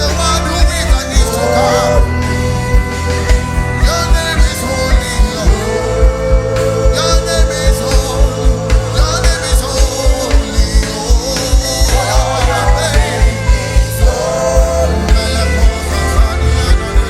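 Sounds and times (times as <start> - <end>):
steady drum beat: 0.0 - 17.0
worship band playing: 0.0 - 17.0.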